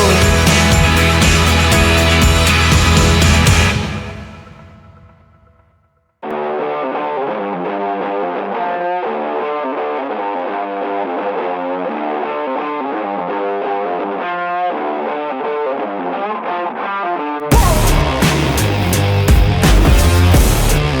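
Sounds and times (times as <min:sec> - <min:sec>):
distorted electric guitar riff: 0:00.0 - 0:05.5, 0:06.2 - 0:21.0.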